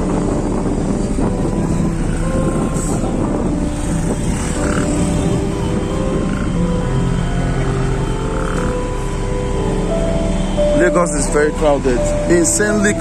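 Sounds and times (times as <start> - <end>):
construction machinery engines: 0.0 - 13.0
road traffic engines: 0.0 - 13.0.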